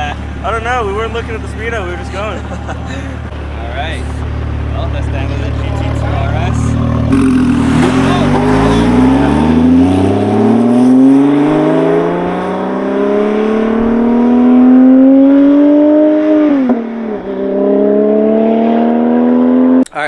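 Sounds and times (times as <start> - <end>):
car engine accelerating hard: 0.0 - 19.8.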